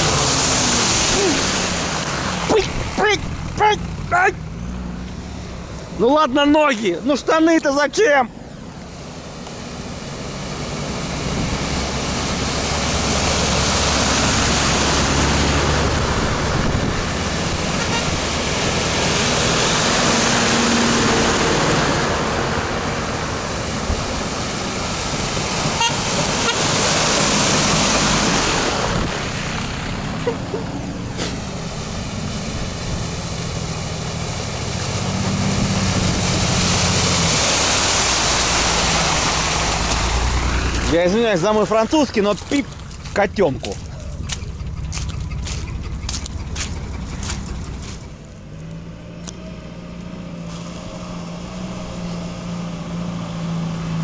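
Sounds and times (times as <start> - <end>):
off-road engines under load: 0.0 - 54.0
water splashing: 0.0 - 54.0.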